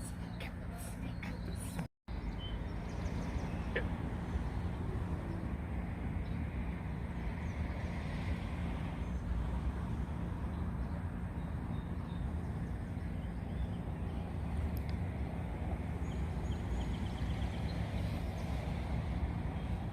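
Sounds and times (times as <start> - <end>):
road traffic rumble: 0.0 - 19.9.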